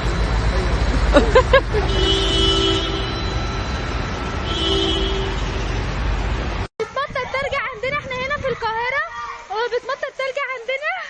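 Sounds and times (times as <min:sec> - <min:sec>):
road traffic in heavy rain: 0:00.0 - 0:11.0.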